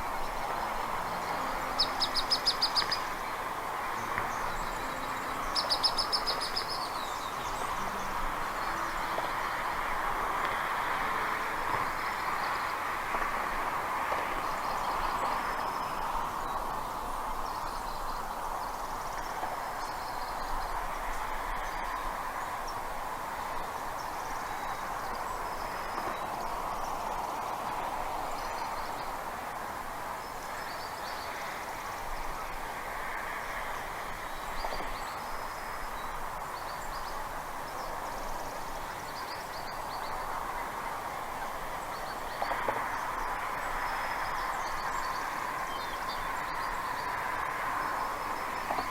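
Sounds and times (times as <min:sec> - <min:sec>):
steady rushing noise: 0:00.0 - 0:48.9.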